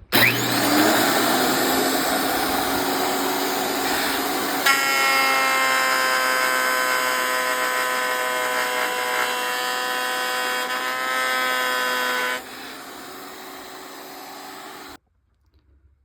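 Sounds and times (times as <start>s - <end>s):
thickness planer whining: 0.0s - 15.0s.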